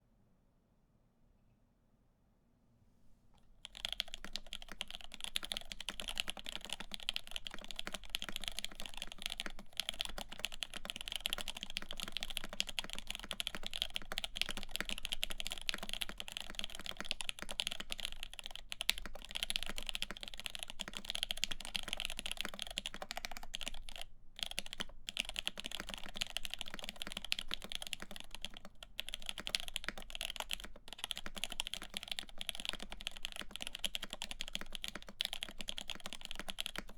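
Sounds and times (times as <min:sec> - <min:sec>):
fast typing on mechanical keyboard: 0:03.6 - 0:36.9.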